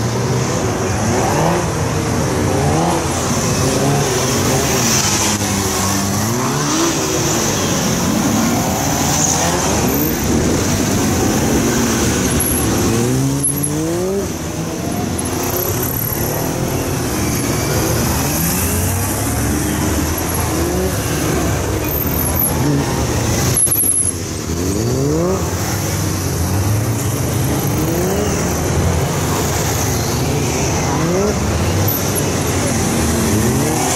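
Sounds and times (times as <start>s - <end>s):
motorcycle engine revving: 1.0s - 33.9s.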